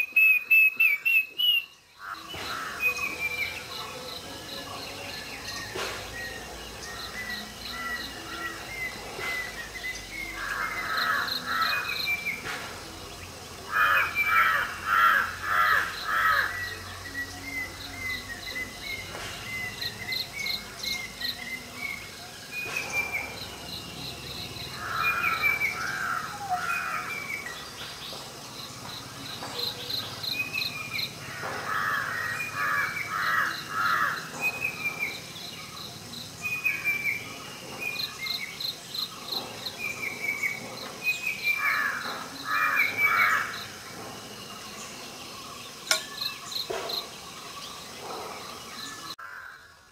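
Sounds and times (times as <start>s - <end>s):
insects chirping: 1.6s - 49.9s.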